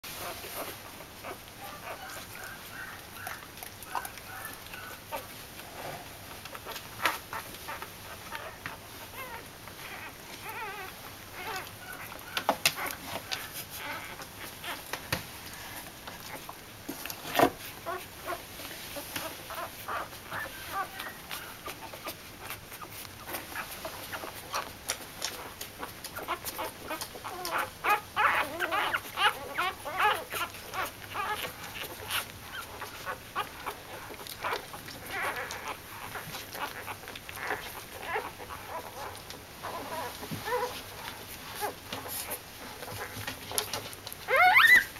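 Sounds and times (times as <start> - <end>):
puppies squeaking and whimpering: 0.1 - 15.0, 16.0 - 44.9.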